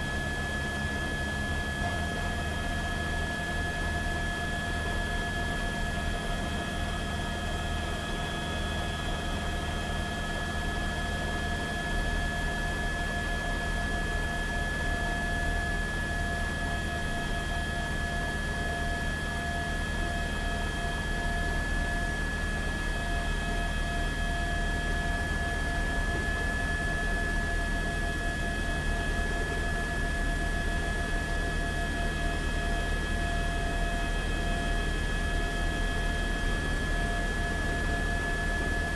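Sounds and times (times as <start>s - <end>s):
constant high whine: 0.0s - 38.9s.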